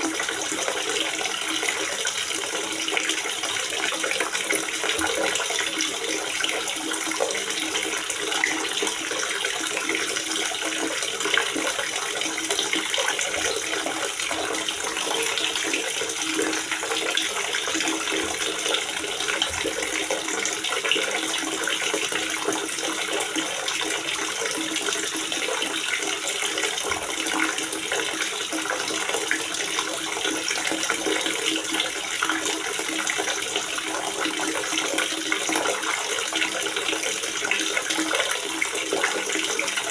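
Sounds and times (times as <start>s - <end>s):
water gurgling: 0.0s - 39.9s.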